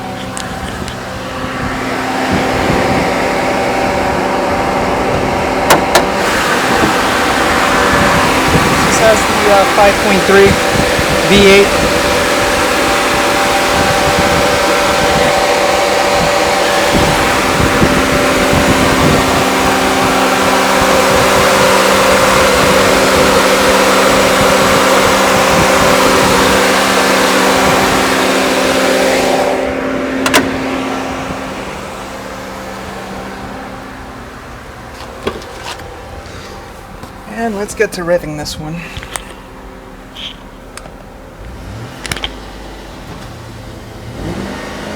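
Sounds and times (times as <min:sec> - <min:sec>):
engine idling with airy rush: 0:00.0 - 0:44.9.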